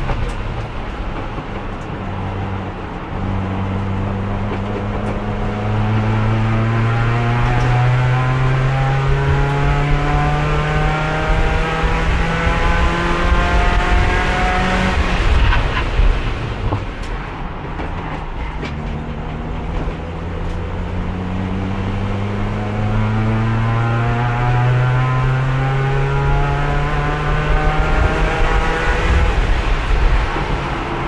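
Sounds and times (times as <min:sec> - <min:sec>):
race car engine from inside: 0:00.0 - 0:17.1, 0:18.4 - 0:31.0.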